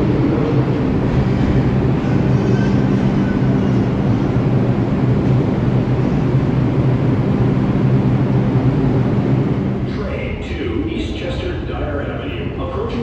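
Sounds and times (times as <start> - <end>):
subway train rumbling on track: 0.0 - 13.0.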